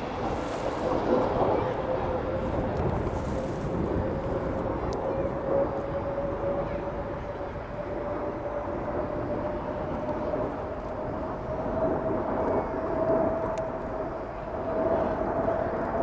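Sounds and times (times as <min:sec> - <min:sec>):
jet engines whining: 0:00.0 - 0:16.0
wide rumble: 0:00.0 - 0:16.0.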